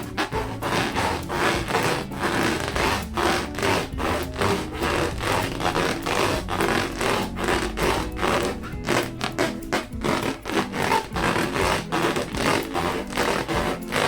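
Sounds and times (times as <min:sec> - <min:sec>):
hands rubbing balloons: 0:00.0 - 0:14.0.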